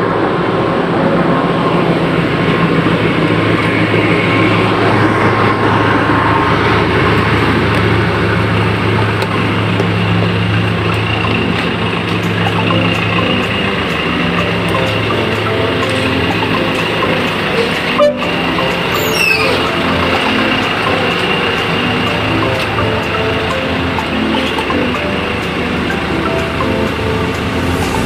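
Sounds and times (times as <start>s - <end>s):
diesel engines idling: 0.0s - 28.0s
thin steady whine: 0.0s - 28.0s.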